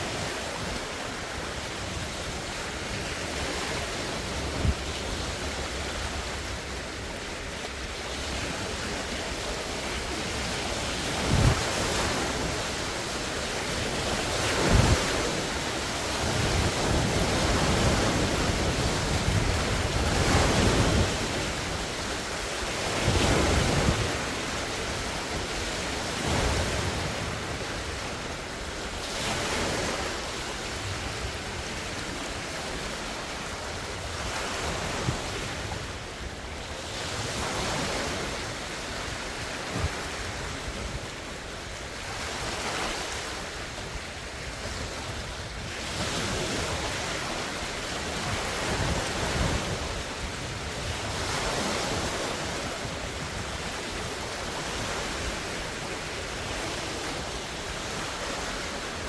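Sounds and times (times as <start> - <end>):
lake waves breaking on shore: 0.0 - 59.0
wind rumbling on microphone: 0.0 - 59.0.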